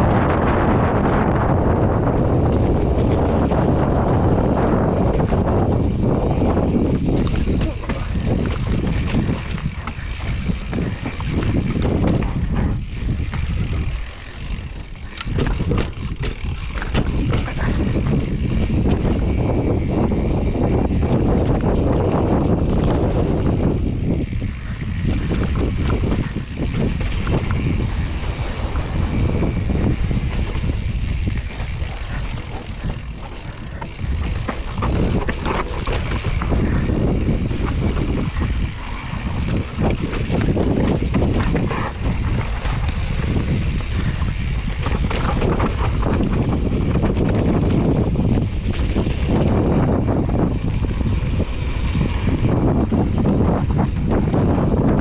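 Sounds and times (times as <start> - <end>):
bike rattles and knocks: 0.0 - 55.0
tyres rumbling over ground: 0.0 - 55.0
wind buffeting microphone: 0.0 - 55.0.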